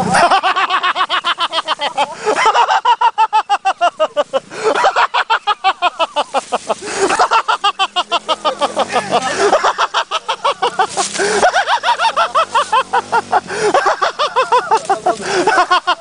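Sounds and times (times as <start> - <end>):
person laughing hard: 0.0 - 16.0.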